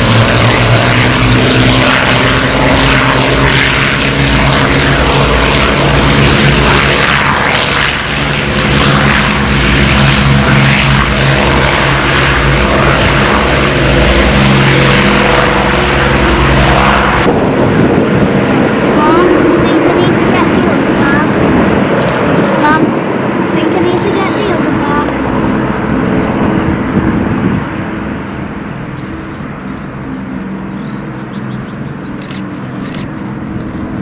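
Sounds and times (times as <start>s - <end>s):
aircraft piston engines droning: 0.0s - 34.0s.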